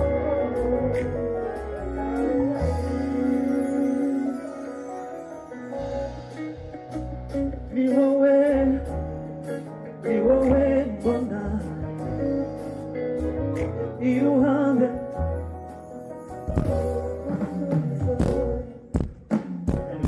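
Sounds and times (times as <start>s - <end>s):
bass and beat: 0.0s - 3.1s, 5.9s - 9.2s, 10.3s - 20.0s
person singing: 0.0s - 15.4s, 16.5s - 20.0s.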